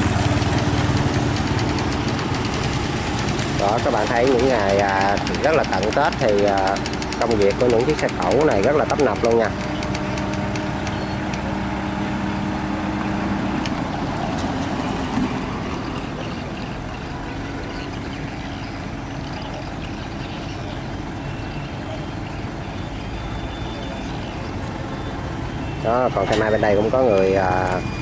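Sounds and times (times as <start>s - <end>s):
crane engine rumble: 0.0s - 28.0s
steady hum: 0.0s - 28.0s.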